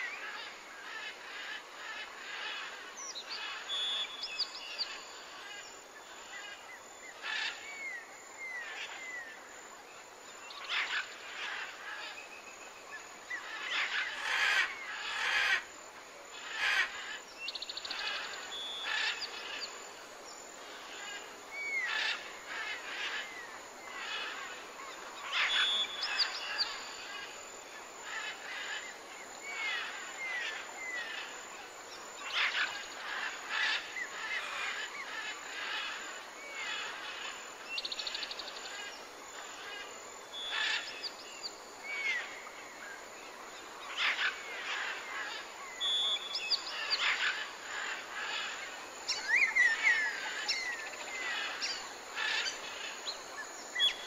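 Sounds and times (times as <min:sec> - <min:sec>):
faint steady hiss: 0:00.0 - 0:54.0.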